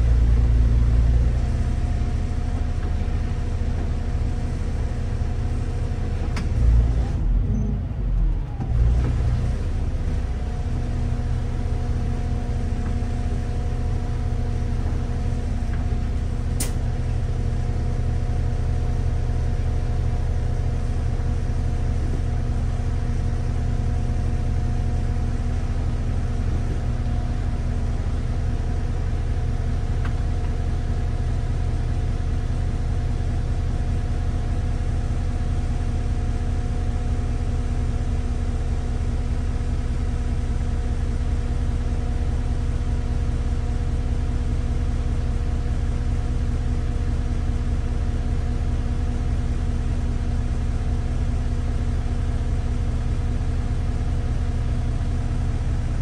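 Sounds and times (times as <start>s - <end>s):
bus engine hum: 0.0s - 48.3s.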